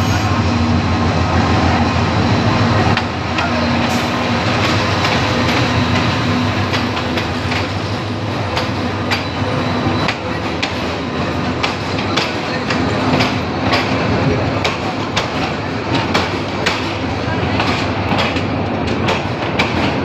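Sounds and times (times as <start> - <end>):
diesel locomotive engine humming: 0.0 - 20.0
train wheels clicking over rail joints: 2.9 - 20.0.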